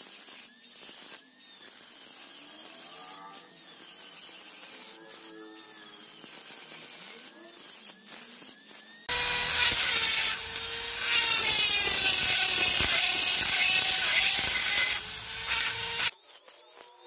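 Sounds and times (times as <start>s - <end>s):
rotary tool grinding shell: 0.0s - 17.0s.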